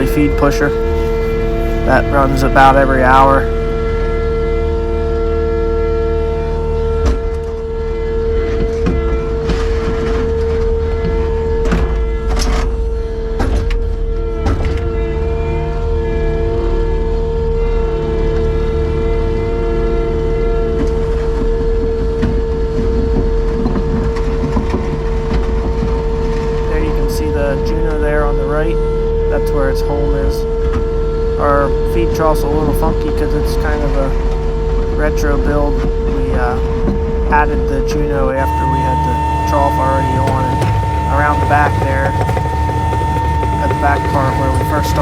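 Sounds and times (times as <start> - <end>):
machine whining over low rumble: 0.0 - 45.0.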